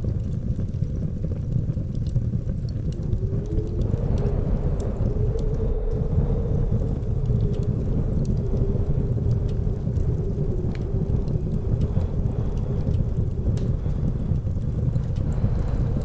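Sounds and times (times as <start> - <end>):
wood fire crackling: 0.0 - 16.0
blizzard wind whistling: 2.0 - 16.0.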